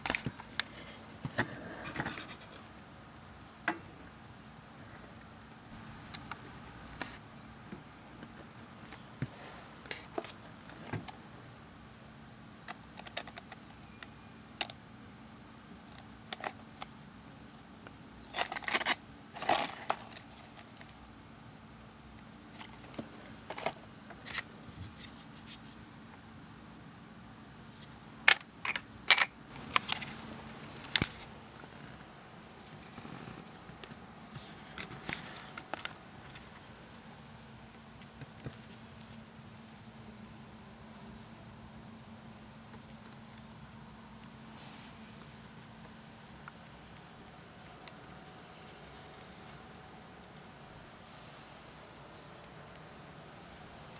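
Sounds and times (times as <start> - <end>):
faint steady hum: 0.0 - 53.9.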